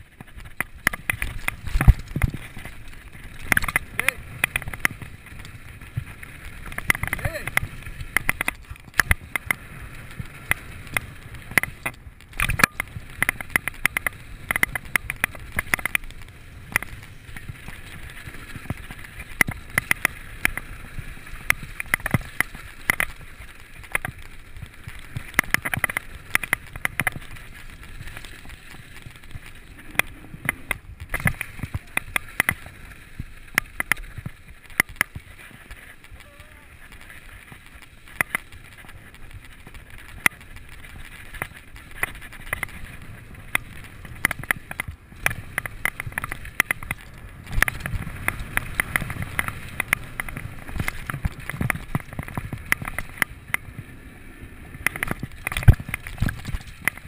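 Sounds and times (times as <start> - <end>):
bike chain and frame rattling: 0.0 - 57.0
tyres crunching on gravel: 0.0 - 57.0.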